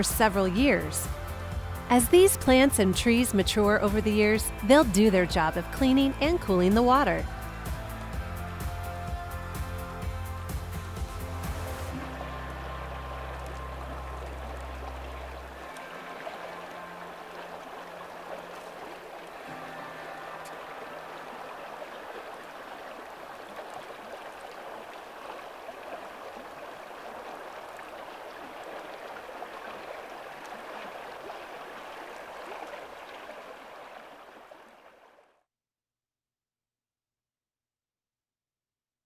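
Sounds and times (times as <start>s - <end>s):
creek water flowing: 0.0s - 35.4s.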